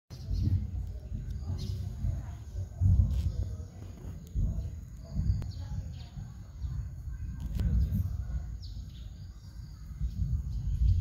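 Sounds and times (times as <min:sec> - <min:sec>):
low uneven rumble: 0:00.1 - 0:11.0
small birds chirping: 0:00.1 - 0:11.0.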